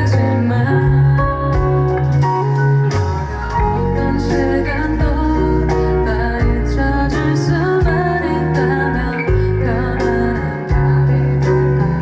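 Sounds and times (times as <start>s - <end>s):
woman singing: 0.0s - 2.5s, 3.6s - 12.0s
bass guitar: 0.0s - 12.0s
guitar: 0.0s - 12.0s.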